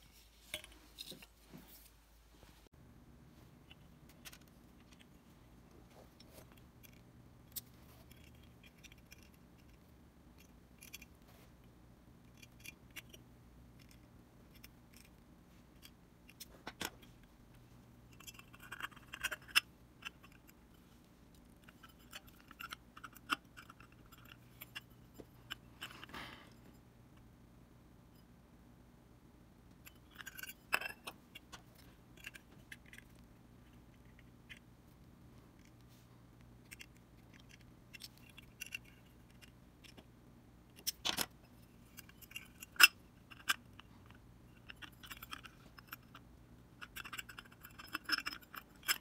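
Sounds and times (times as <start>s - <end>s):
small metal parts and tools clicking: 3.6s - 11.3s, 12.2s - 27.3s, 29.7s - 34.7s, 36.4s - 40.1s, 40.7s - 49.0s.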